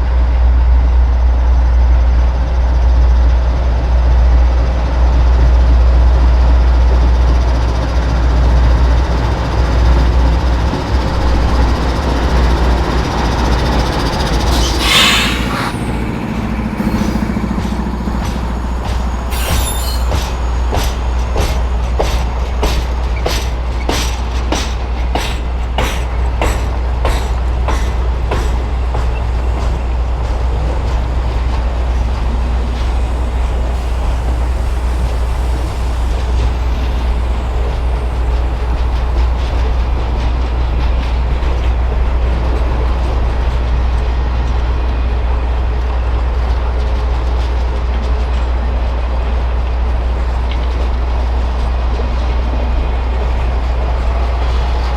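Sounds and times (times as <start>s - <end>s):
train rolling rumble: 0.0s - 54.9s
train wheels clicking over rail joints: 7.0s - 54.9s.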